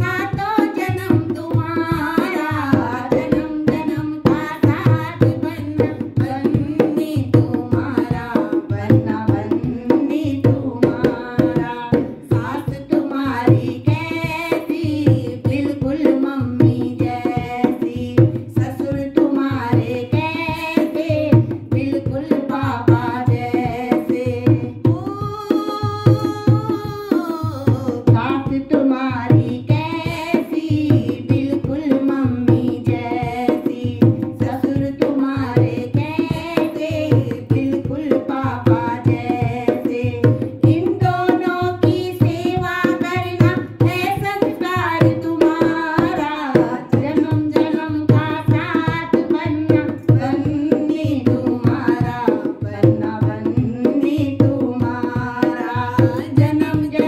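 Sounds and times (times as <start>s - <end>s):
hand drum steady beat: 0.0s - 57.0s
women singing folk song: 0.0s - 57.0s.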